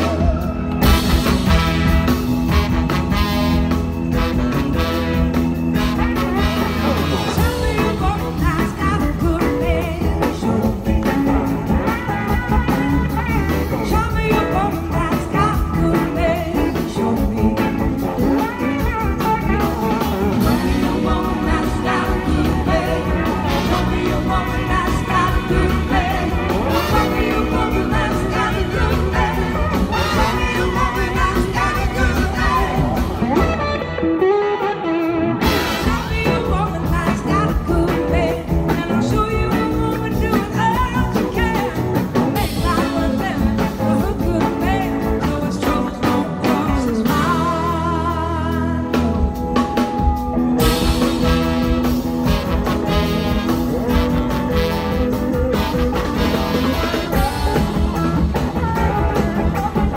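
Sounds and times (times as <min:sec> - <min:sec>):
person singing lead vocal: 0:00.0 - 0:01.7, 0:06.0 - 0:59.9
blues-rock band playing: 0:00.0 - 0:59.9.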